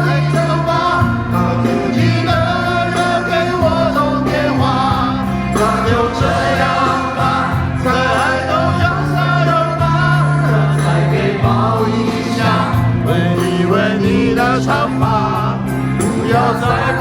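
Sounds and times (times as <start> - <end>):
long held bass notes: 0.0 - 17.0
singing over a band: 0.0 - 17.0.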